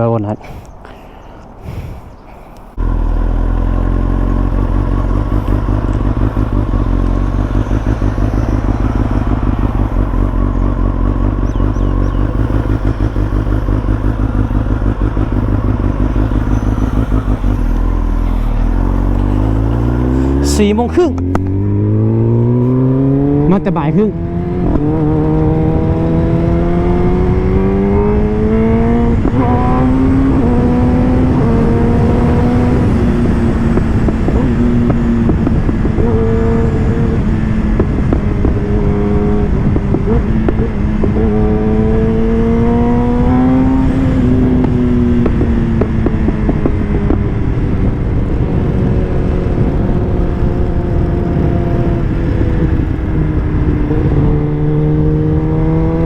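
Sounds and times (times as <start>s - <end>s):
wind noise: 0.0s - 56.0s
motorcycle engine shifting gears: 2.7s - 56.0s.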